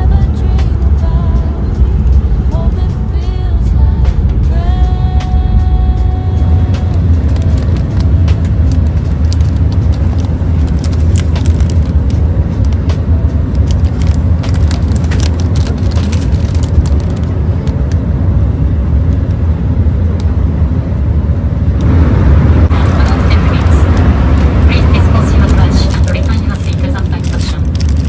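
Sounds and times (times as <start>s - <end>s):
vehicle rumbling: 0.0s - 28.0s.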